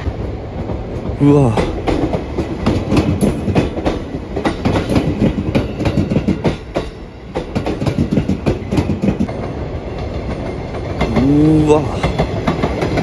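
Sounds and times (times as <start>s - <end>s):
train wheels clattering: 0.0s - 11.4s, 12.0s - 13.0s
low train rumble: 0.0s - 13.0s.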